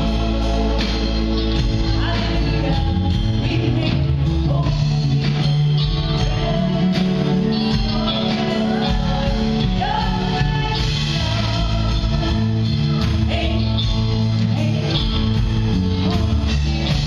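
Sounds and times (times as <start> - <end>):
woman singing into microphone: 0.0 - 5.3, 6.0 - 17.0
live band playing: 0.0 - 17.0.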